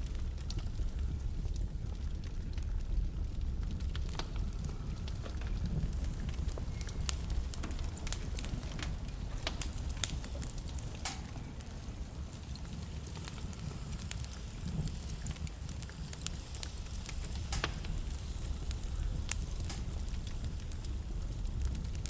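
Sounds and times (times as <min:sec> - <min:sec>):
fire rumbling: 0:00.0 - 0:22.0
logs crackling and popping: 0:00.0 - 0:22.0.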